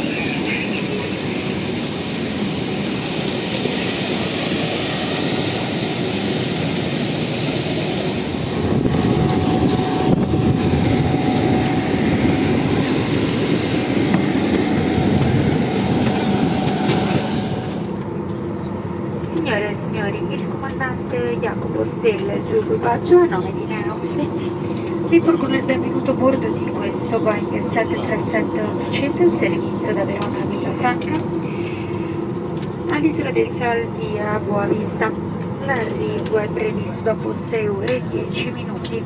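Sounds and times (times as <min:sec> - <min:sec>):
jet airliner whine: 0:00.0 - 0:39.0.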